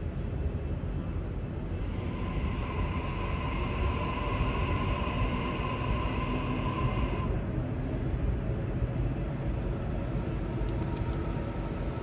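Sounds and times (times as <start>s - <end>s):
electric train rumbling: 0.0s - 12.0s
electric whine of train motors: 0.2s - 12.0s.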